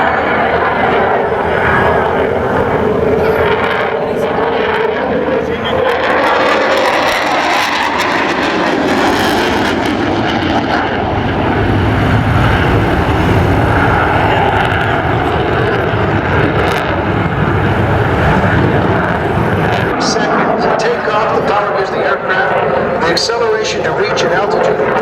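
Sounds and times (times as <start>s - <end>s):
aircraft engine roaring: 0.0s - 25.0s.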